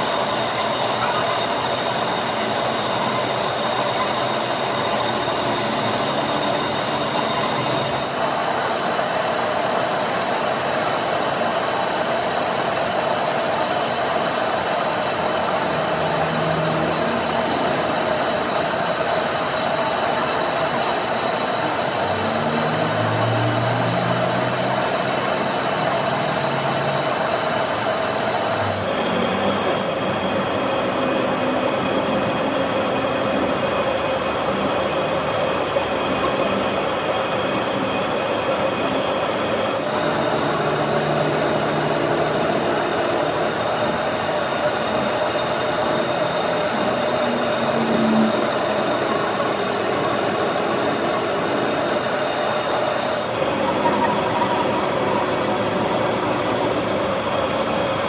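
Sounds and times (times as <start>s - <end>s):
machine humming: 0.0s - 32.2s, 39.3s - 58.0s.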